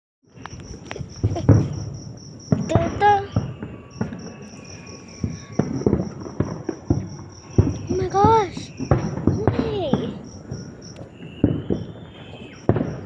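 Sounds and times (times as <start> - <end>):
crickets chirping: 0.2 - 13.0
distant fireworks bangs: 0.3 - 13.0.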